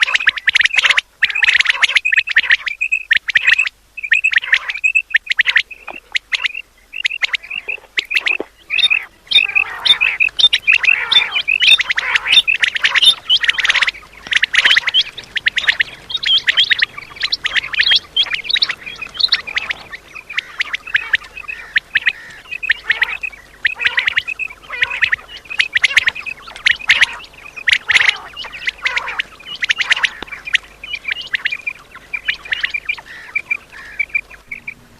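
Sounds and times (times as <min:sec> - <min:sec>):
quail calling: 0:00.0 - 0:34.9.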